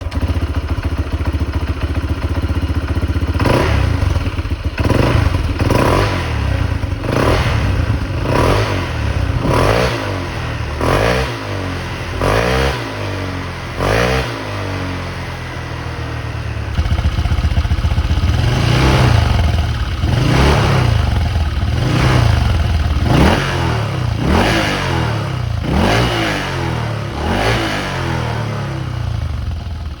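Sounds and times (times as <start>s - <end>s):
scooter engine revving: 0.0s - 30.0s.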